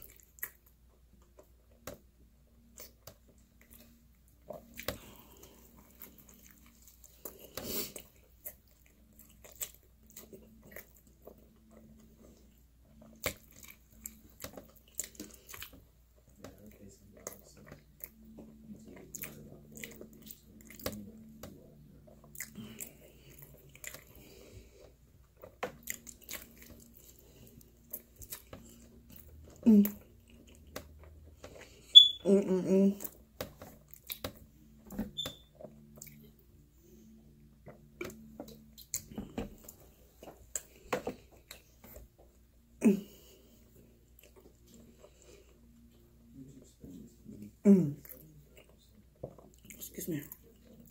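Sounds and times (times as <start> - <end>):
person chewing food: 0.0 - 2.0, 2.6 - 32.2, 32.8 - 50.9.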